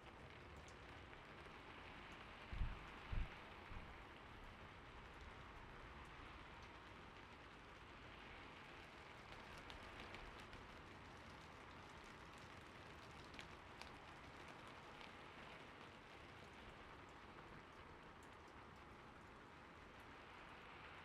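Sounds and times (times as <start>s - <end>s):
faint rain: 0.0s - 21.0s.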